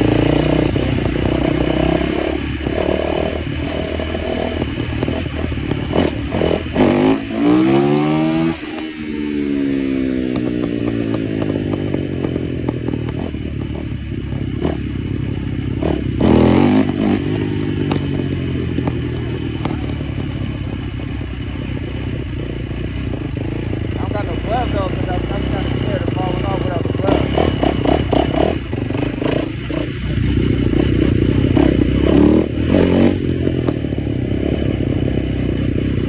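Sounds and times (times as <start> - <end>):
small motorbike engine revving: 0.0 - 36.0.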